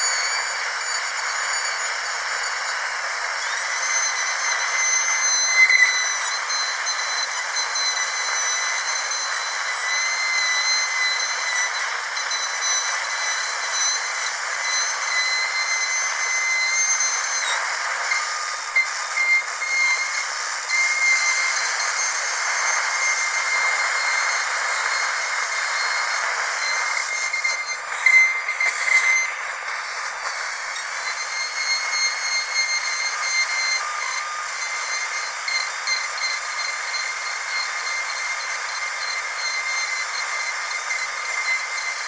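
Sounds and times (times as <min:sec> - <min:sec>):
dentist's drill whining: 0:00.0 - 0:42.0.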